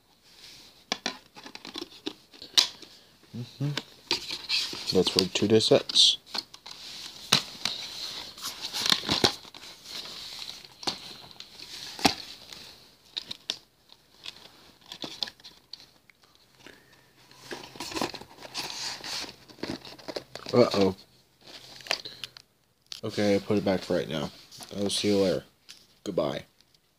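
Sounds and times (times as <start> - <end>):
plastic case rustling and crinkling: 0.4 - 3.0, 3.8 - 26.0.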